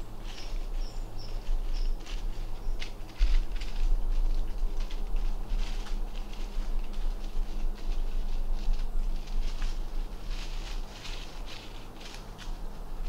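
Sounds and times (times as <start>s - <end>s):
rustling crackles: 0.0s - 13.0s
steady low rumble: 0.0s - 13.0s.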